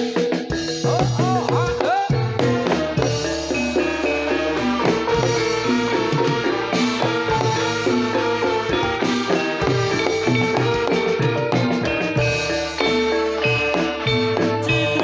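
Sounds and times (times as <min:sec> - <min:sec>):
drumming: 0:00.0 - 0:15.0
gamelan metallophone notes: 0:00.0 - 0:15.0.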